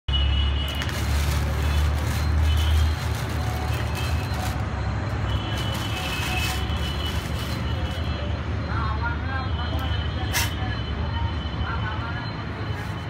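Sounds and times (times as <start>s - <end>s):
steady background noise: 0.1s - 13.0s.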